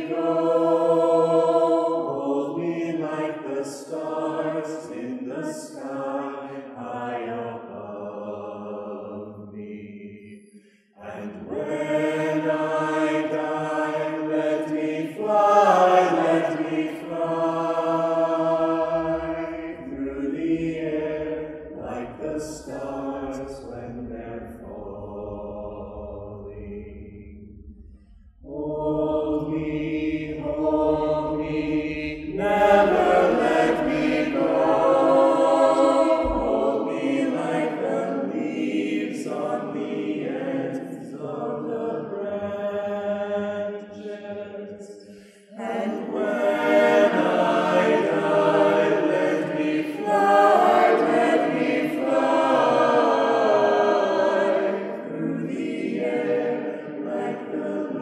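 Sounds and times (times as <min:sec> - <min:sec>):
mixed choir singing: 0:00.0 - 0:27.4, 0:28.4 - 0:58.0.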